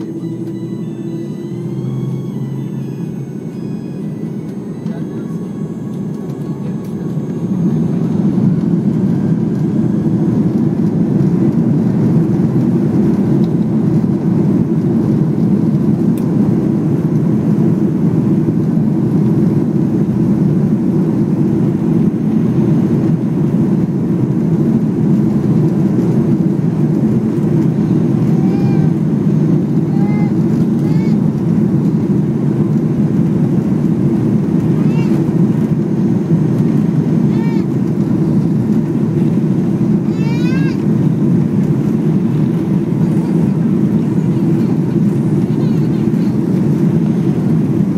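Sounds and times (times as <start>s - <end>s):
jet engines rumbling in cabin: 0.0s - 47.9s.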